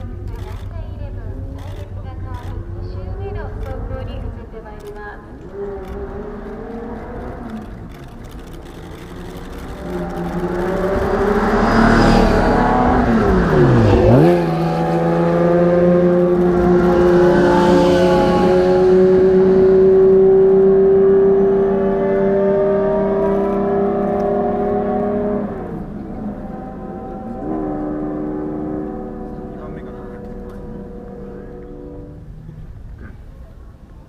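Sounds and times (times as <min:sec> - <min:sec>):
race car engine driving by: 0:00.0 - 0:33.3.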